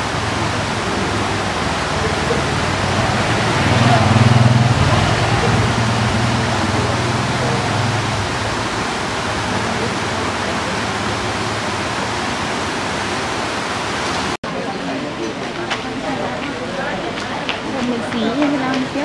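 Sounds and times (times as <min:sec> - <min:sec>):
stream water flowing: 0:00.0 - 0:19.0.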